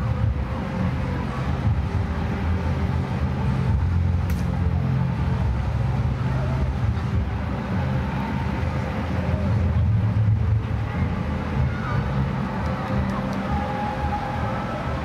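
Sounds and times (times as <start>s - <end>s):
crowd murmur: 0.0s - 15.0s.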